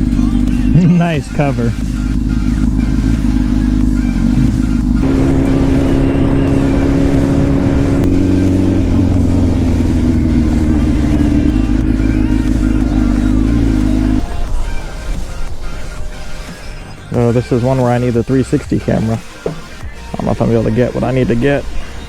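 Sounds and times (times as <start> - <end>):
motorcycle engine running loud: 0.0 - 22.0.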